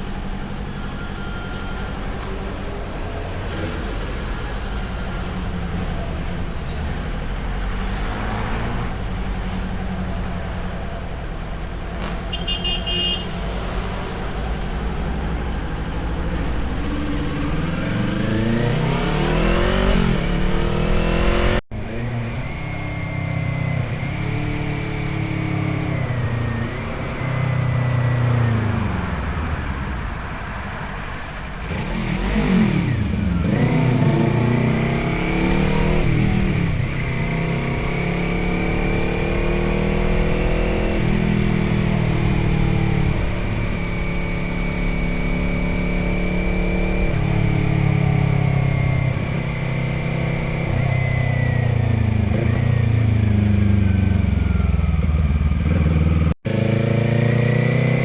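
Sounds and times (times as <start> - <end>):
motorcycle engine accelerating: 0.0 - 30.6, 31.4 - 58.0.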